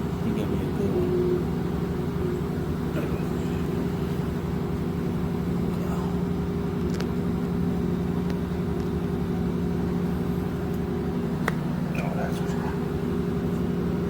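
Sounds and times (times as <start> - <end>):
laundry machine humming: 0.0 - 14.0.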